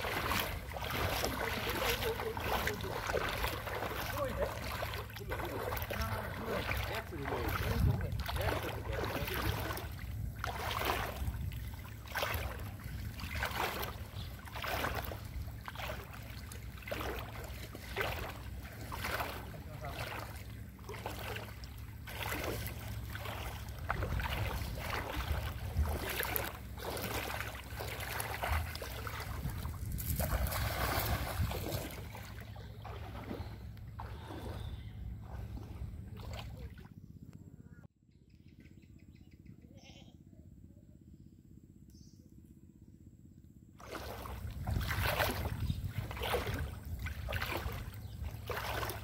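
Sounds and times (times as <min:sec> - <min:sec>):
legs wading through water: 0:00.0 - 0:37.5, 0:43.8 - 0:49.0
low steady rumble: 0:00.0 - 0:49.0.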